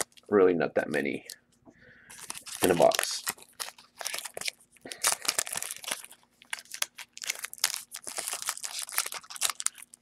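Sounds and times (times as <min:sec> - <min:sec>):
wrappers torn and crinkled: 0:00.0 - 0:00.3, 0:02.1 - 0:10.0.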